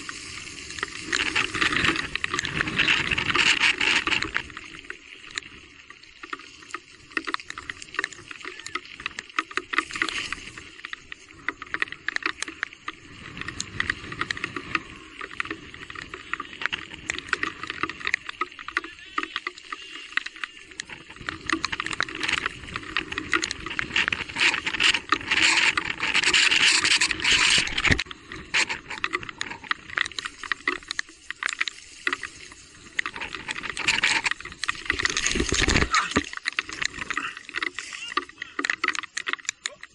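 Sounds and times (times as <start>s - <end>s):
bike tyres on wet ground: 0.0s - 39.9s
small knocks and rattles: 6.2s - 39.9s.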